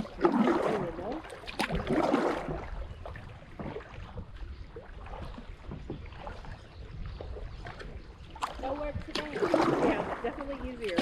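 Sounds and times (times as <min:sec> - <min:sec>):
low wind rumble on microphone: 0:00.0 - 0:11.0
small splashes: 0:00.0 - 0:11.0
water lapping against hull: 0:00.0 - 0:11.0.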